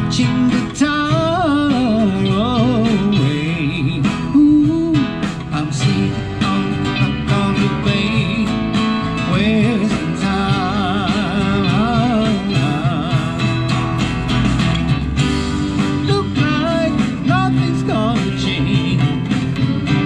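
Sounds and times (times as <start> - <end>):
man singing: 0.0 - 13.9, 15.8 - 20.0
strummed acoustic guitar: 0.0 - 20.0.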